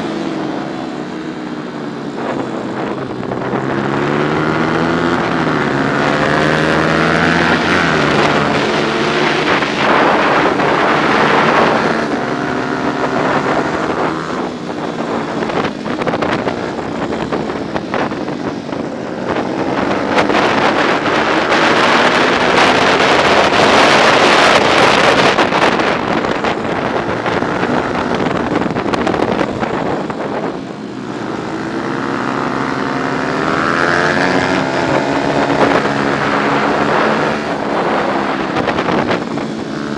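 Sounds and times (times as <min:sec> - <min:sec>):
motorcycle engine revving hard: 0:00.0 - 0:39.9
wind rushing over microphone: 0:00.0 - 0:39.9.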